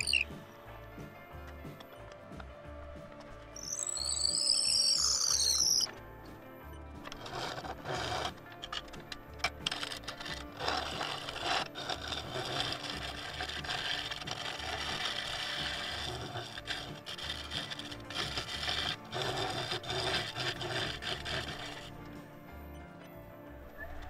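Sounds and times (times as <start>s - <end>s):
lathe tool scraping wood: 0.0s - 24.0s.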